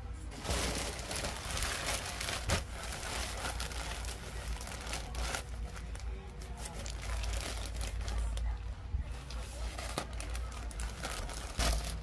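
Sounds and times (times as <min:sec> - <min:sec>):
plastic bag crinkling: 0:00.3 - 0:12.0
sharp plastic crackles: 0:00.3 - 0:12.0.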